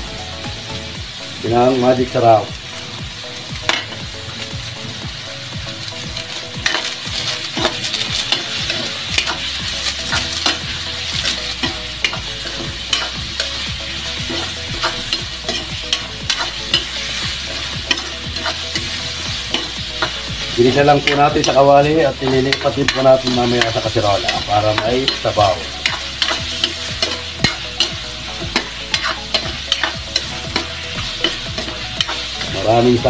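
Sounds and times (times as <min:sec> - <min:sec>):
chicken sizzling in oil: 0:00.0 - 0:33.0
spatula scraping a wok: 0:05.8 - 0:32.8.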